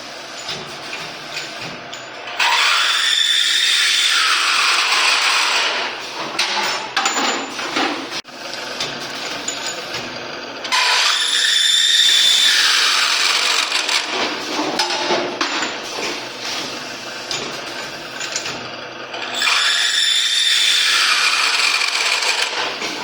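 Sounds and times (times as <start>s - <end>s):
machine cutting metal tube: 0.4s - 6.3s, 8.4s - 23.0s.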